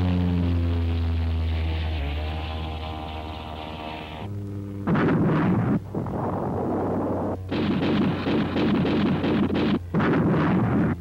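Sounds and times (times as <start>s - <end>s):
rumbling: 0.0s - 11.0s
steady low hum: 0.0s - 11.0s.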